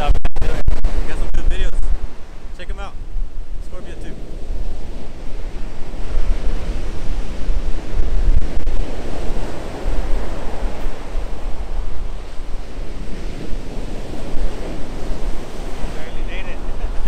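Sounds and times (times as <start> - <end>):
ocean surf breaking: 0.0 - 17.0
wind on microphone: 0.0 - 17.0.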